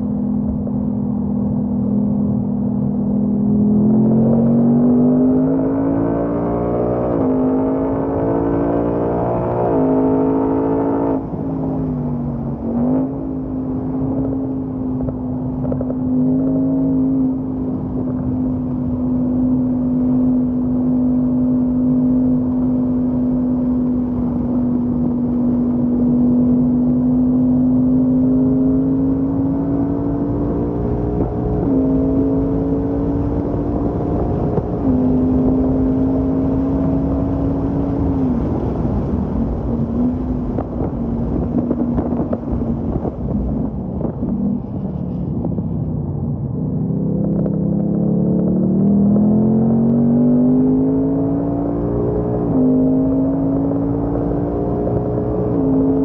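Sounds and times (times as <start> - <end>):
car engine drone inside cabin: 0.0 - 56.0
road and tyre noise: 0.0 - 56.0.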